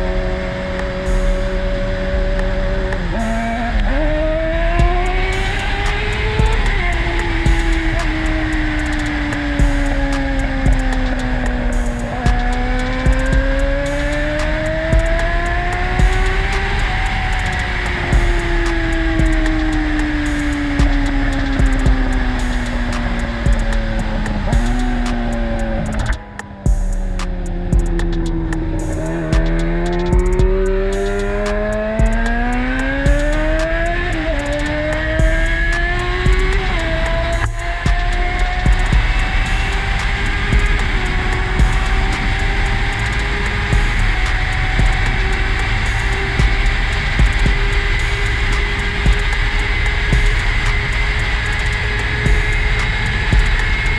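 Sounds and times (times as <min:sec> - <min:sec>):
motorcycle engine running: 0:00.0 - 0:53.9
music: 0:00.0 - 0:53.9.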